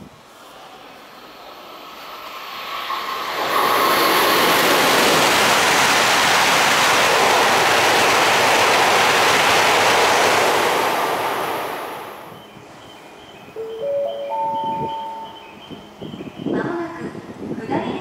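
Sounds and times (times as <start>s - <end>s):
high-speed train rushing past: 0.0s - 18.0s.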